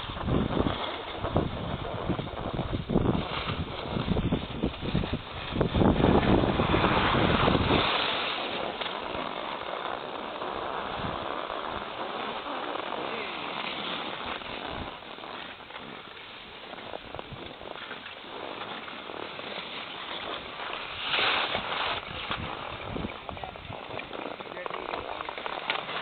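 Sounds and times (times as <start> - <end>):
skis scraping over snow: 0.0 - 26.0
wind buffeting microphone: 0.0 - 26.0.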